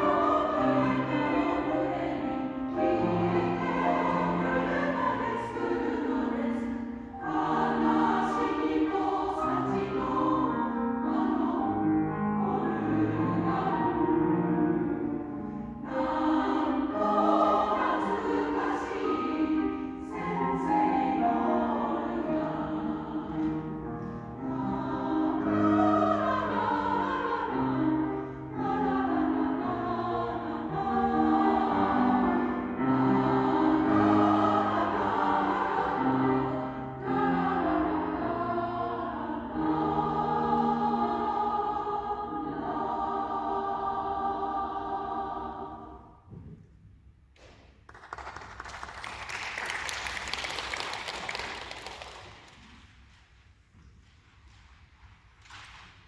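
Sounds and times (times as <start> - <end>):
choir singing: 0.0 - 46.4
choir accompaniment: 0.0 - 46.6.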